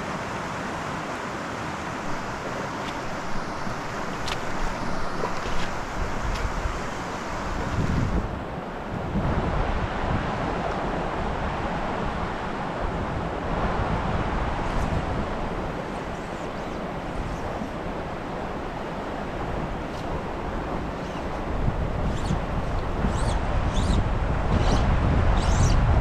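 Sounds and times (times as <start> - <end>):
stream rushing: 0.0 - 26.0
wind buffeting microphone: 2.0 - 26.0.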